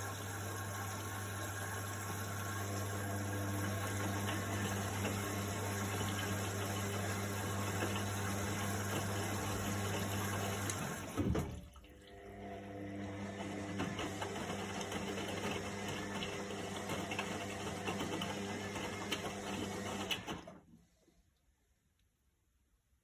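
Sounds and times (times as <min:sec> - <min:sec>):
water rushing into washing machine: 0:00.0 - 0:20.8.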